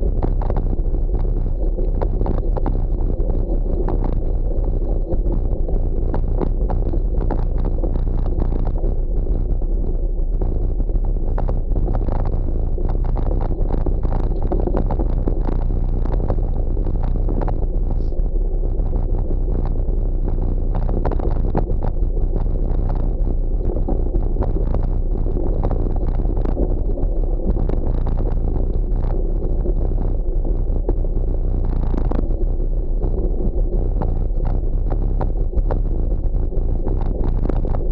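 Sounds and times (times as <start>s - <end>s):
bike tyres rumbling on dirt trail: 0.0s - 37.9s
wind on microphone: 0.0s - 37.9s.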